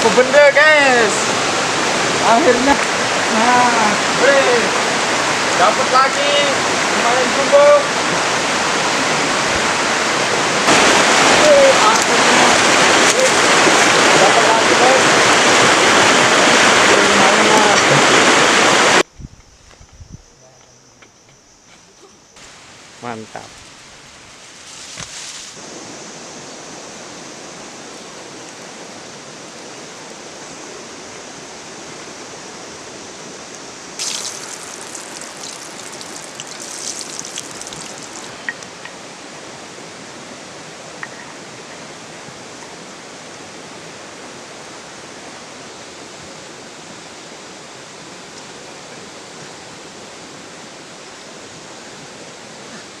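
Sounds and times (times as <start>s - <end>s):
river water flowing: 0.0s - 19.0s, 22.4s - 53.0s.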